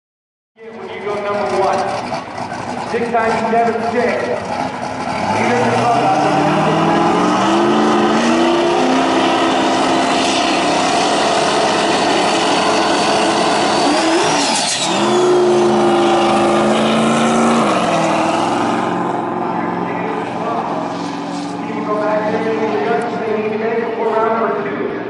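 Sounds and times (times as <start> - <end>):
race car engines revving high: 0.6 - 25.0.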